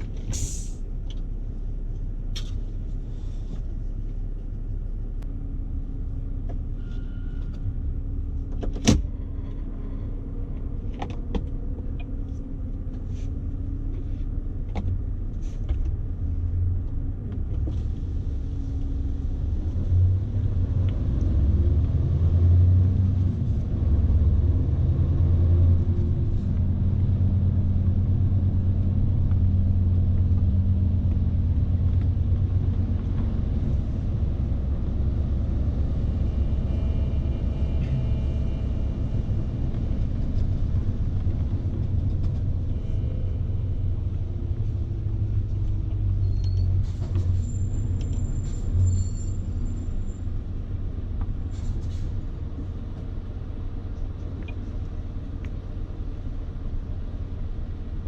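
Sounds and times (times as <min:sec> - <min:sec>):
low road rumble: 0:00.0 - 0:58.0.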